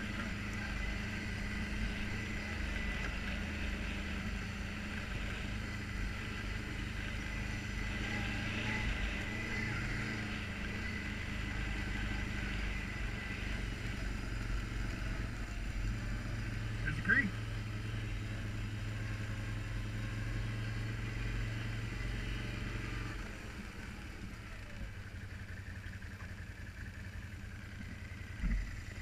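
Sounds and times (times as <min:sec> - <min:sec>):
quad bike engine running: 0:00.0 - 0:29.0.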